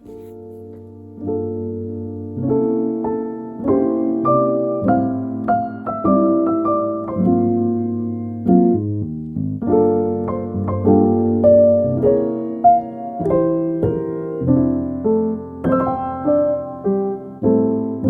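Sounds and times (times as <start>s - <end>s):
lo-fi piano music: 0.0s - 18.0s.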